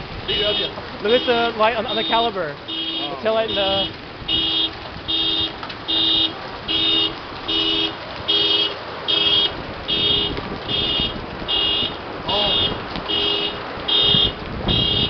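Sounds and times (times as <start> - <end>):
hail and heavy rain hissing: 0.0 - 15.0.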